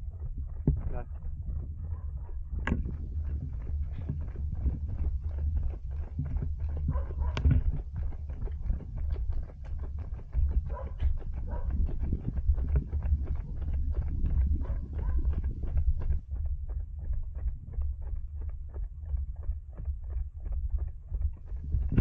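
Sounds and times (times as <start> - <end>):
running footsteps: 0.0 - 22.0
wind rumble on microphone: 0.0 - 22.0.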